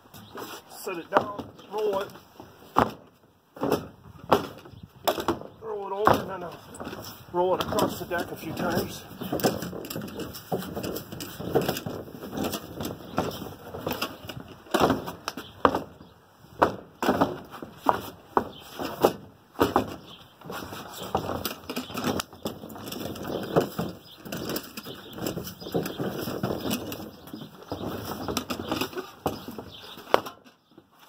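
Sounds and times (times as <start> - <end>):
drum rolling on wooden boards: 3.6 - 30.3.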